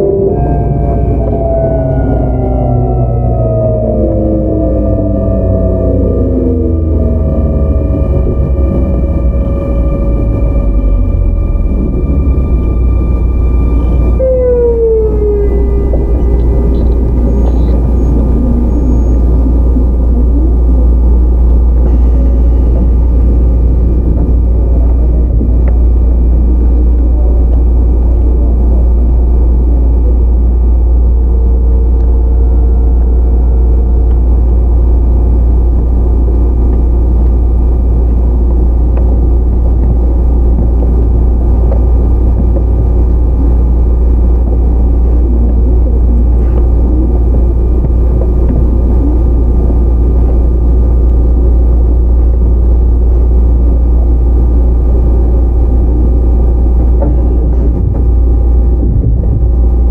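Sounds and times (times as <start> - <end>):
faint steady whining tones: 0.0 - 59.9
train wheels rumbling on rails: 0.0 - 59.9.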